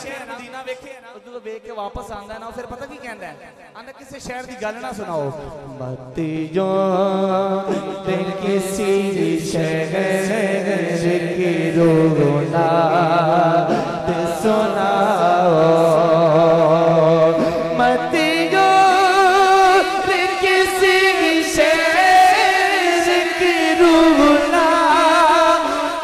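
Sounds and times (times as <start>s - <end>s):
man singing into a microphone: 0.0s - 3.3s, 4.2s - 26.0s.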